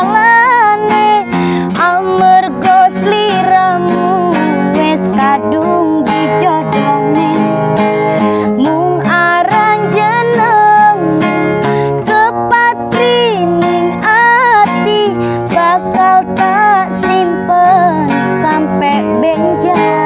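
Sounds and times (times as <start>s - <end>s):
strummed acoustic guitar: 0.0s - 20.0s
woman singing slow love song: 0.0s - 20.0s.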